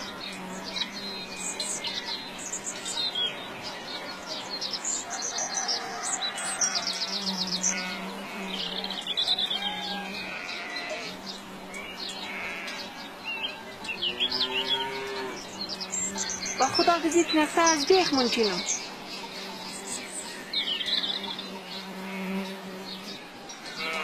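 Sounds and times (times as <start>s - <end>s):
birds chirping and twittering: 0.0s - 24.0s.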